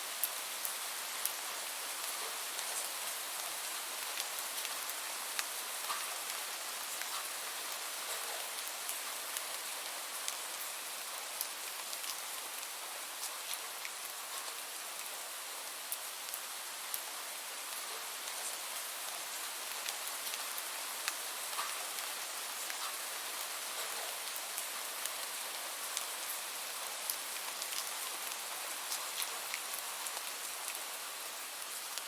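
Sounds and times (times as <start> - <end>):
steady rain hiss: 0.0 - 32.0
raindrops ticking on surface: 0.1 - 32.0.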